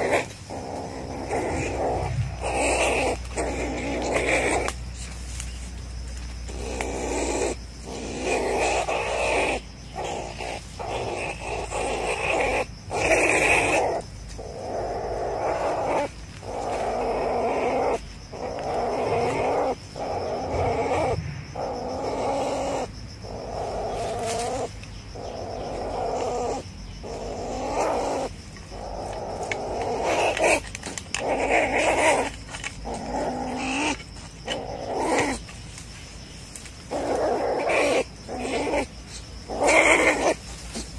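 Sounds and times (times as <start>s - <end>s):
animal growling: 0.0s - 5.2s, 6.4s - 35.5s, 36.9s - 40.9s.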